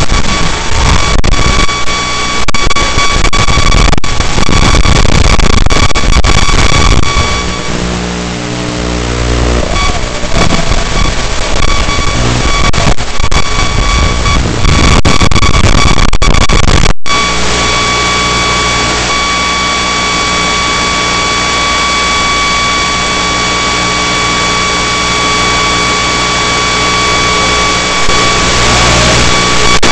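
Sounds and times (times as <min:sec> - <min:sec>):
crackling radio static: 0:00.0 - 0:29.9
low hum: 0:00.0 - 0:29.9
thin electronic whine: 0:00.0 - 0:29.9.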